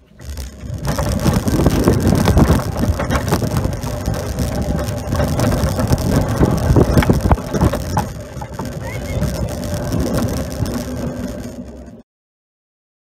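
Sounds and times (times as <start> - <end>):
wooden cart rattling on rails: 0.0 - 12.0.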